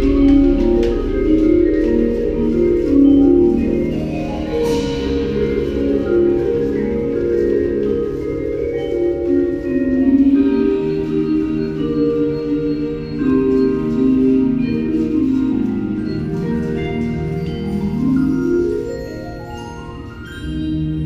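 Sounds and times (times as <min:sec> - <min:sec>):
cymbal ringing: 0:00.0 - 0:21.0
mallet percussion chords: 0:00.0 - 0:21.0.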